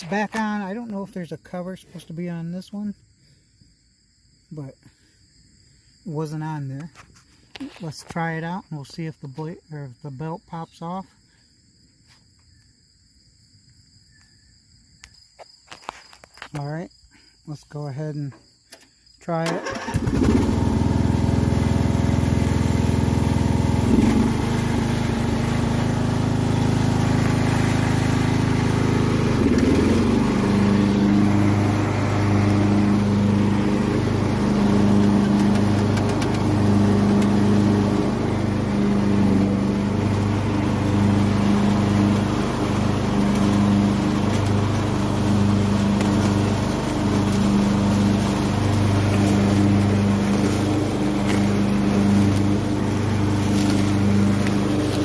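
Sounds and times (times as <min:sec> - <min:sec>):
riding lawn mower engine running: 0:00.0 - 0:02.9, 0:06.1 - 0:11.1, 0:17.5 - 0:55.0.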